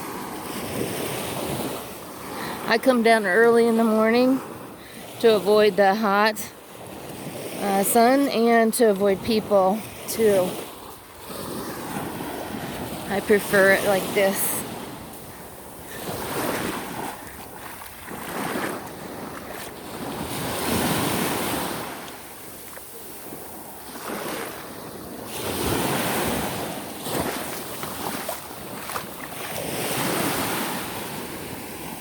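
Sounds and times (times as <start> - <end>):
small waves breaking on beach: 0.0 - 32.0.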